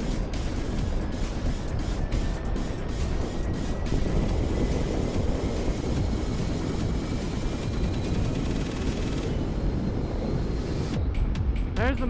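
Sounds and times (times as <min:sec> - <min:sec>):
wind rush over microphone: 0:00.0 - 0:11.8.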